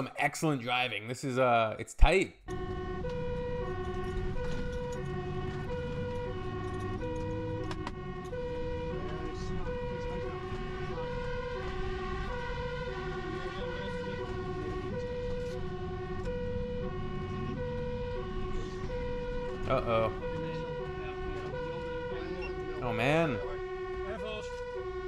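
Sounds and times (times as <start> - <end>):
truck engine and road rumble: 2.4 - 25.0
two-tone siren: 2.5 - 25.0.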